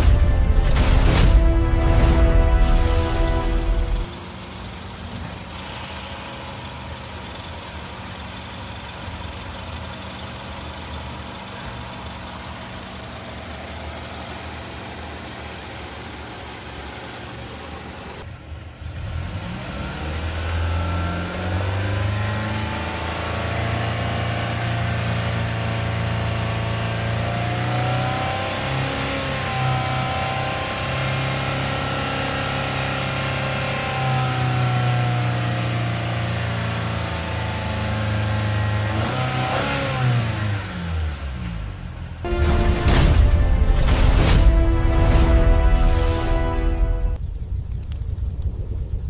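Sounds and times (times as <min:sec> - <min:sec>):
car engine idling and revving: 0:00.0 - 0:49.0.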